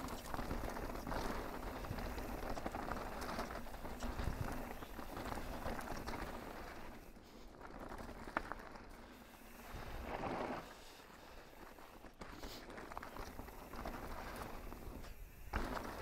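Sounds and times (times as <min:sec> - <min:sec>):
bike clicks and rattles: 0:00.0 - 0:16.0
bike tyres crunching on dirt: 0:00.0 - 0:16.0.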